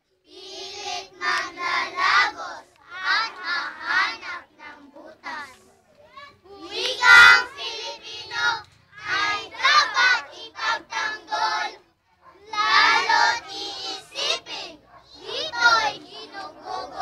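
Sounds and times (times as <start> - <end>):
children singing in unison: 0.2 - 5.6, 6.5 - 11.8, 12.4 - 17.0.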